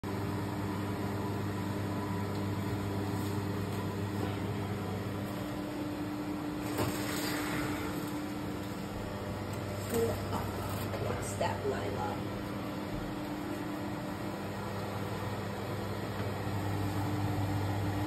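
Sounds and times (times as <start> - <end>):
kitchen fan motor hum: 0.0 - 18.0.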